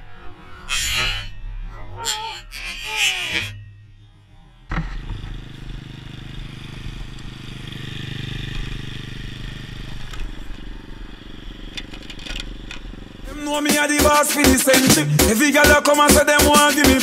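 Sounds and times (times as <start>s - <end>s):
pit bike engine running: 0.0s - 16.8s.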